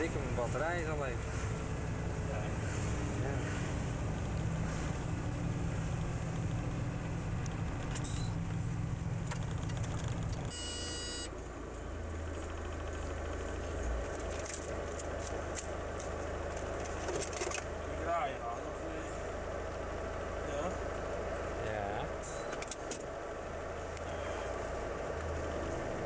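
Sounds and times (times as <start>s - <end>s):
truck diesel engine droning: 0.0s - 26.0s.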